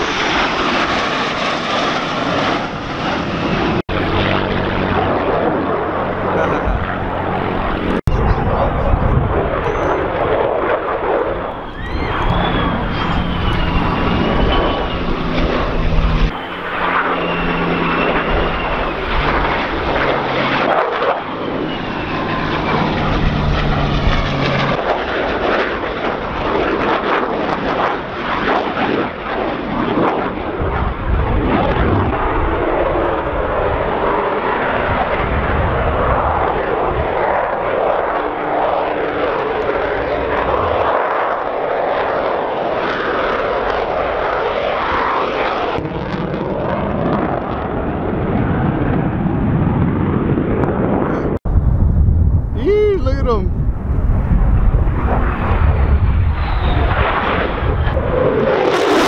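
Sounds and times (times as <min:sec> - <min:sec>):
propeller plane piston engine: 0:00.0 - 0:45.8, 0:52.4 - 0:59.0
jet engine roar with whine: 0:00.0 - 0:59.0.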